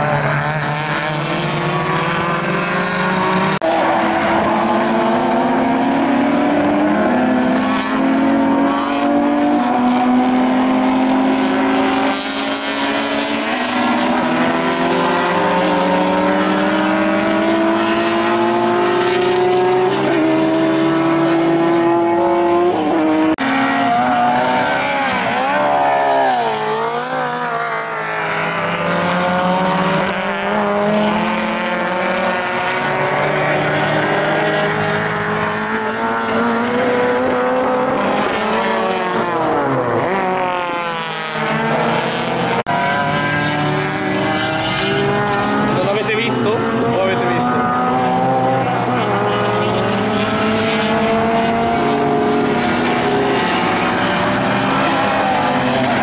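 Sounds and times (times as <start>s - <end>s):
race car engines at full throttle: 0.0s - 56.0s.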